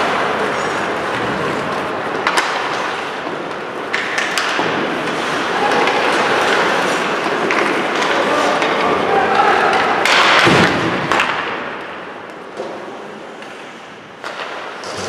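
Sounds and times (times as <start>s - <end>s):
arena noise: 0.0s - 15.0s
hockey sticks and puck clacking: 0.0s - 15.0s
skates scraping ice: 0.0s - 15.0s.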